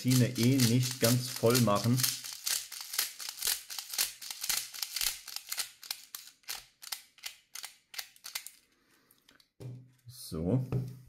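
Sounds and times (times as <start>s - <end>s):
small sharp clicks of loading pellets: 0.0s - 9.5s.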